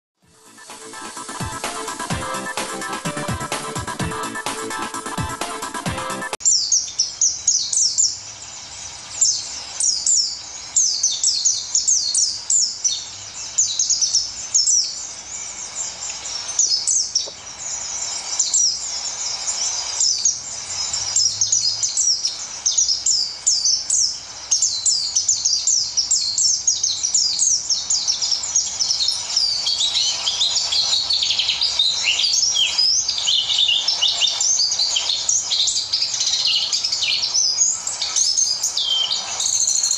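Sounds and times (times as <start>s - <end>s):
bird twittering: 0.9s - 39.9s.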